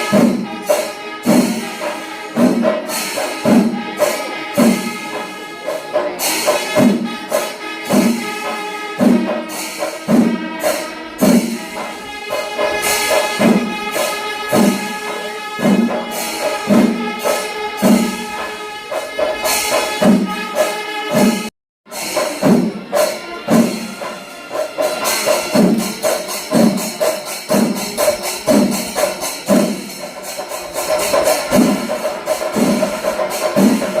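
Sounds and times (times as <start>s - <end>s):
cymbal jingling: 0.0s - 21.0s, 21.9s - 34.0s
held wind instrument tones: 0.0s - 33.8s
heavy drum strokes: 0.0s - 34.0s.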